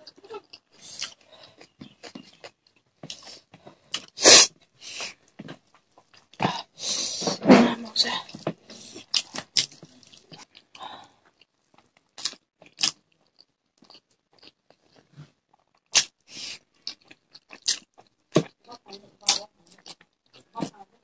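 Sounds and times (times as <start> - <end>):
chewing and lip smacks: 0.0 - 4.1, 5.0 - 6.4, 8.3 - 20.6.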